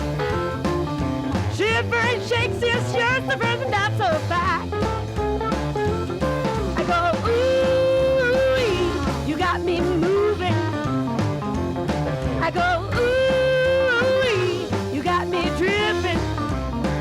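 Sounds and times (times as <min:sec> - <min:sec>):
rock and roll song with singing: 0:00.0 - 0:17.0.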